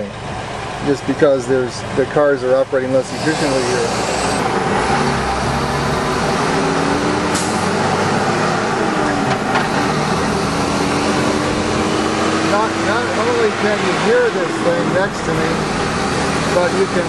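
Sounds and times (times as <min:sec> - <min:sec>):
diesel truck engine running: 0:00.0 - 0:17.0
heavy street traffic: 0:00.0 - 0:17.0.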